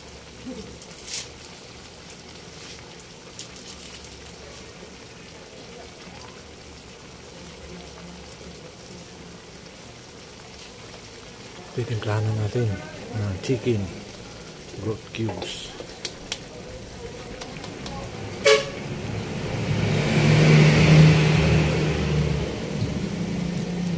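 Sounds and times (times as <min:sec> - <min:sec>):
broth simmering in a metal pan: 0:00.0 - 0:23.9.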